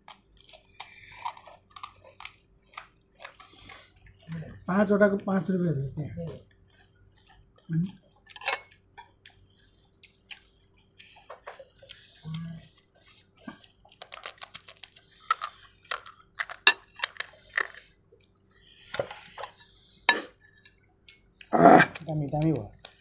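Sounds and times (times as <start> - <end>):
crisp shells crackling and crunching: 0.0 - 5.5, 6.2 - 19.9, 21.0 - 23.0.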